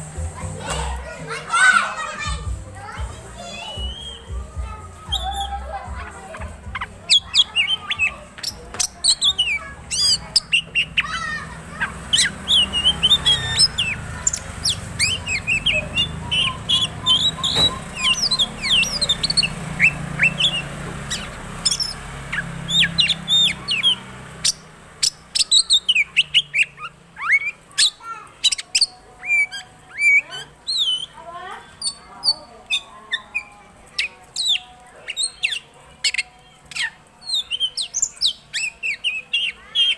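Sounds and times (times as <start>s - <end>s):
songbird whistles chirps and trills: 2.8s - 39.9s.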